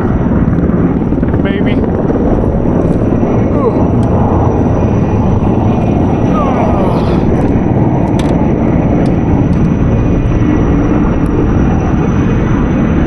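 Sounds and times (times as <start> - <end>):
helicopter rotor and engine noise: 0.0 - 13.0.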